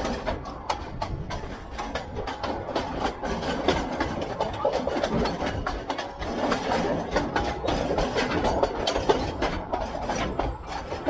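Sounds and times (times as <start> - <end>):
rattling and knocks: 0.0 - 11.0
train engine rumble: 0.0 - 11.0.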